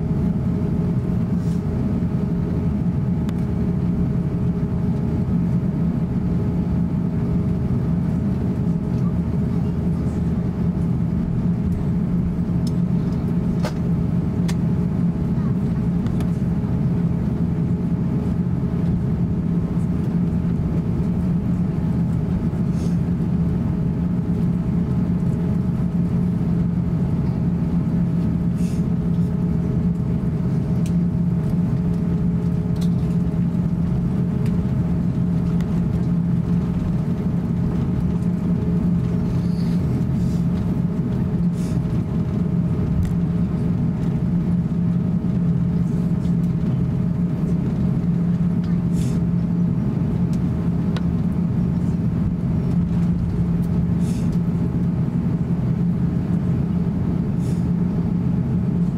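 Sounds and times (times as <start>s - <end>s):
jet engine drone in cabin: 0.0s - 58.9s.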